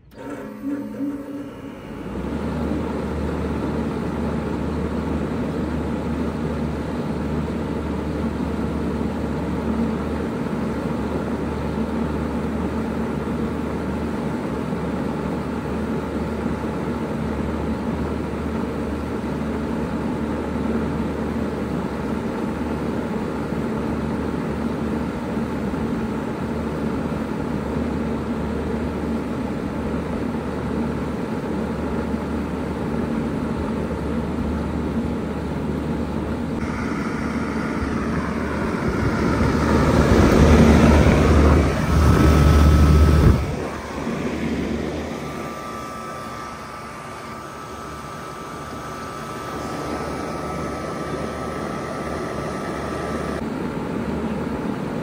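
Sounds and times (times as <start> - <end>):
heat pump humming: 0.0 - 55.0.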